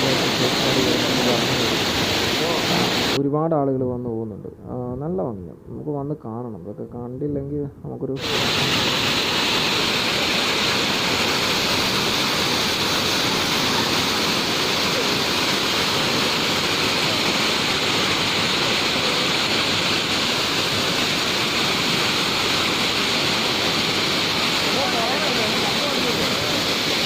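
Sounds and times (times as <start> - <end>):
waterfall pouring: 0.0 - 3.2, 8.2 - 27.0.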